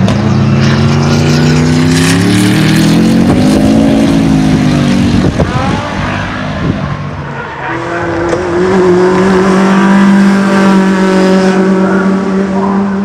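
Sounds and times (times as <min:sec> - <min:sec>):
another car engine: 0:00.0 - 0:13.0
race car engine at high revs: 0:00.0 - 0:13.0.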